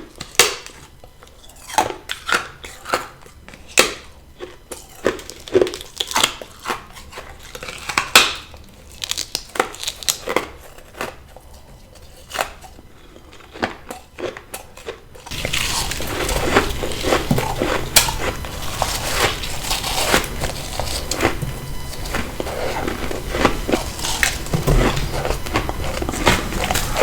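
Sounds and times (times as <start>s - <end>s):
ice being chewed: 0.0s - 27.0s.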